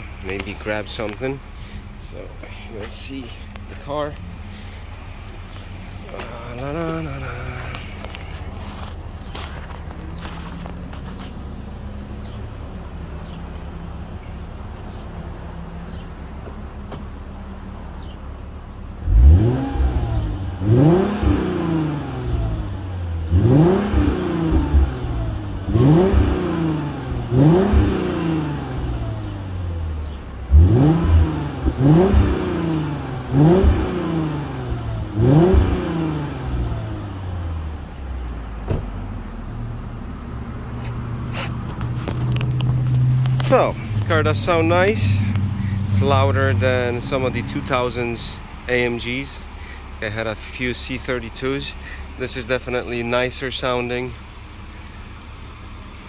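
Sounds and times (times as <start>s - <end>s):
car engine revving: 0.0s - 16.1s, 16.8s - 56.0s
car engine idling: 0.0s - 56.0s.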